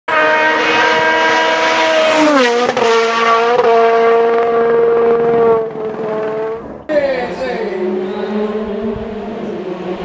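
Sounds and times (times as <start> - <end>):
rally car engine revving: 0.1 - 10.0.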